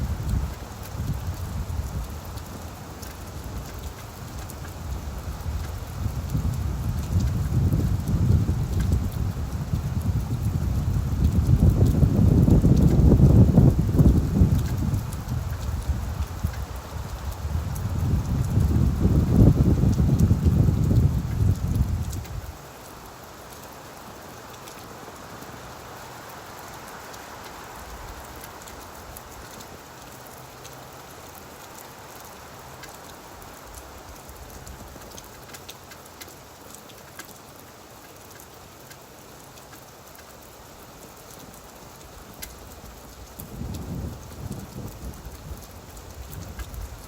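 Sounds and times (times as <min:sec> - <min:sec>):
rain falling on leaves: 0:00.0 - 0:47.0.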